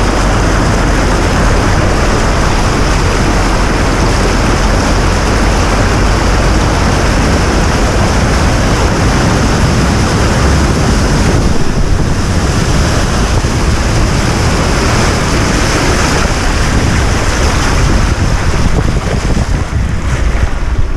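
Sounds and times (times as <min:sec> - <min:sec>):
rushing water: 0:00.0 - 0:20.9
wind buffeting microphone: 0:00.0 - 0:20.9.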